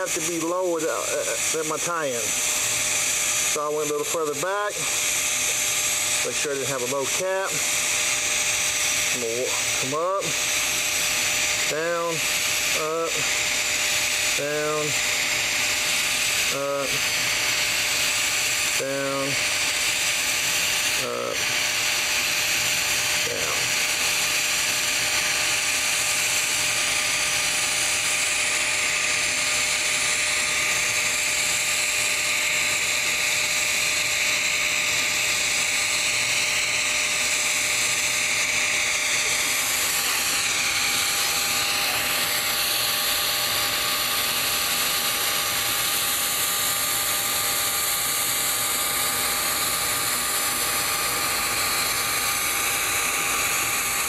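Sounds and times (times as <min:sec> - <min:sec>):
welding arc hissing and buzzing: 0:00.0 - 0:54.0.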